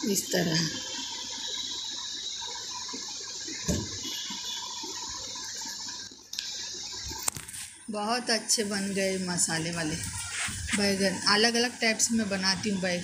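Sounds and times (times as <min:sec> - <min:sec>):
steady rushing hiss: 0:00.8 - 0:13.0.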